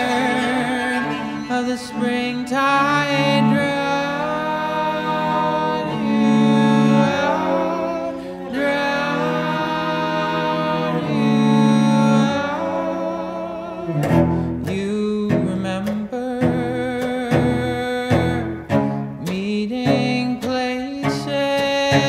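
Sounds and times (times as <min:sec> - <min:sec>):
cello bowed notes: 0:00.0 - 0:22.0.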